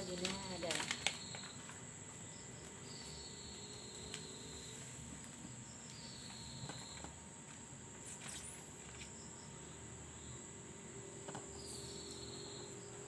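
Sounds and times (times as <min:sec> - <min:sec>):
faint insect chirring: 0:00.0 - 0:13.0.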